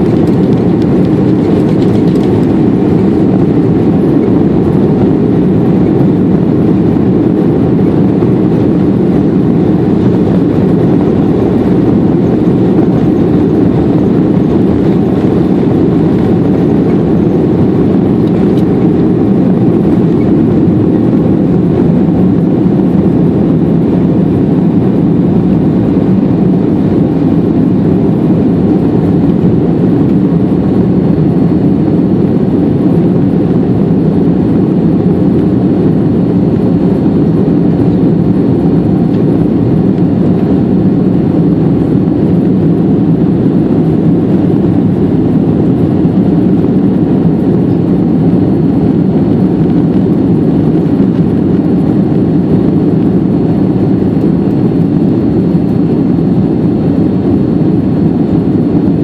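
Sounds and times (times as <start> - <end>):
airplane cabin roar: 0.0 - 59.0.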